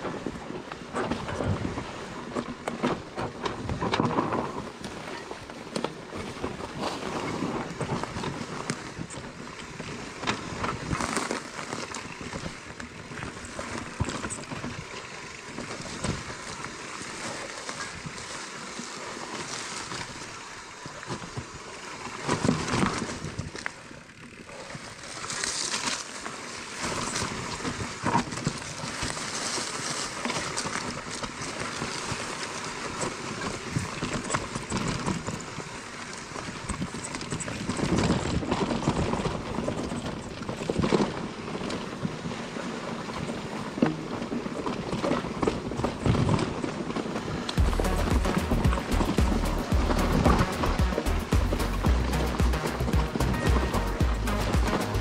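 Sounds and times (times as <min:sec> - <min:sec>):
bike tyres rolling over dirt: 0:00.0 - 0:55.0.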